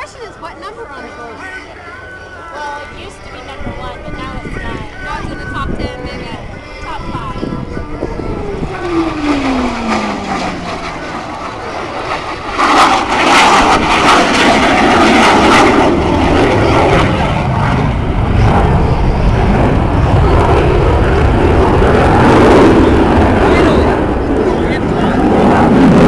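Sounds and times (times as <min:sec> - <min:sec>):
falling jet whine: 0:00.0 - 0:26.0
jet engine roar: 0:00.0 - 0:26.0.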